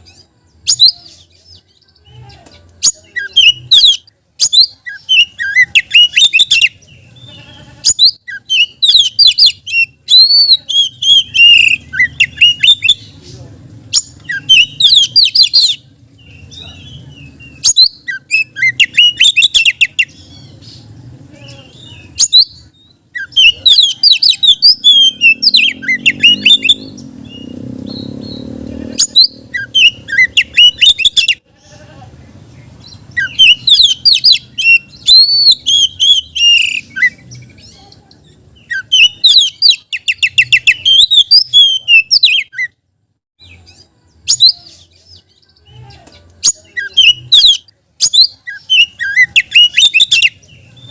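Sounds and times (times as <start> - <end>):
bird singing rapid phrases: 0.0 - 50.9.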